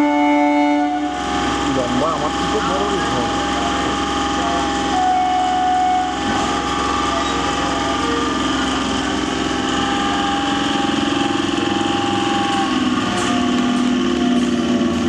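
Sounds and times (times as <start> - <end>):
electric train motors humming: 0.0 - 15.0.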